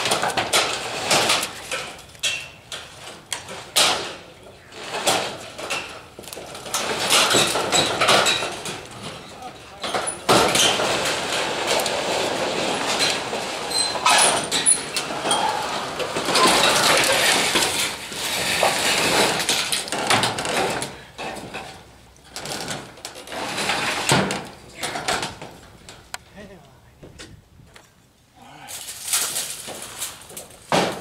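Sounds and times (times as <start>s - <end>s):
sheet-metal roofing rattling and clanking: 0.0s - 26.1s, 28.7s - 31.0s.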